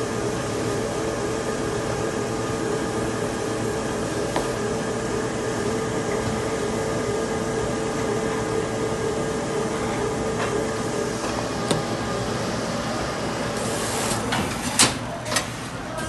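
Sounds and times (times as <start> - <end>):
packaging machine hum: 0.0 - 16.0.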